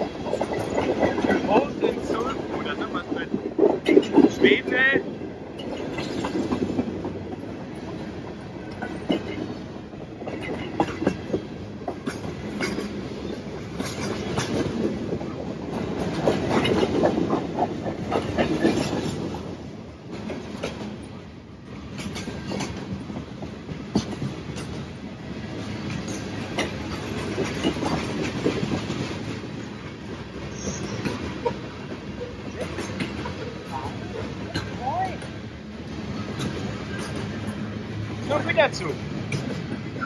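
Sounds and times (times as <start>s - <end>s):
freight train wheels rumbling: 0.0s - 40.0s
wheels clacking over rail joints: 0.0s - 40.0s.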